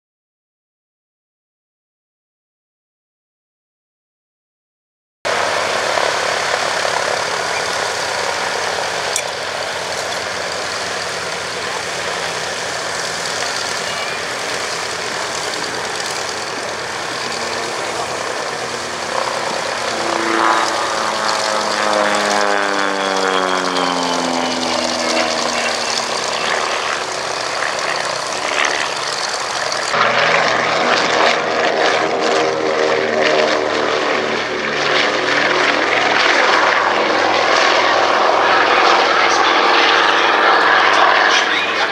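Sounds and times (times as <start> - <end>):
aircraft engines droning: 5.3 - 41.9.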